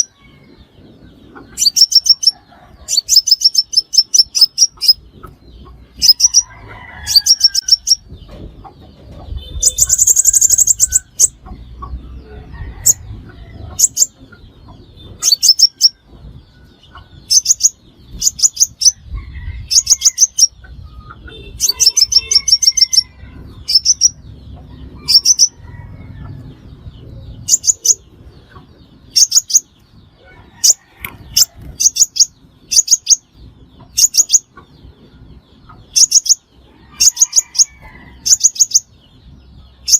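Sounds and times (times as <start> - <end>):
bird chirping in rapid bursts: 0.0 - 39.9.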